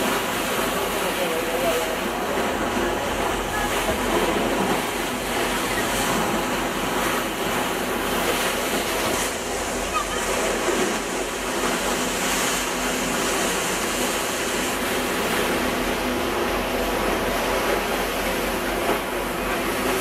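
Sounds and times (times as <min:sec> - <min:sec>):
boat engine hum: 0:00.0 - 0:20.0
water rushing along hull: 0:00.0 - 0:20.0.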